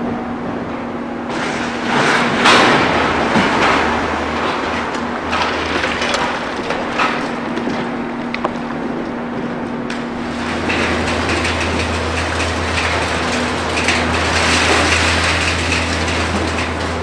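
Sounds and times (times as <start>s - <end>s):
machine engine humming: 0.0s - 17.0s
concrete rubble crashing down: 1.3s - 9.0s, 9.9s - 17.0s.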